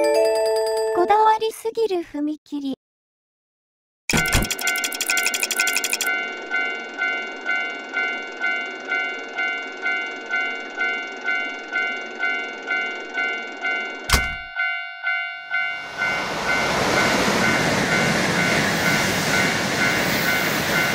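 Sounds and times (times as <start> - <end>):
railroad crossing bell ringing: 0.0 - 1.2, 4.1 - 20.9.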